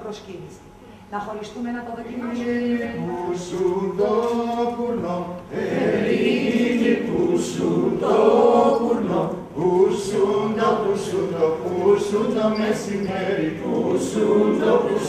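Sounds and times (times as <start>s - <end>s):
voices singing unaccompanied: 2.1s - 15.0s.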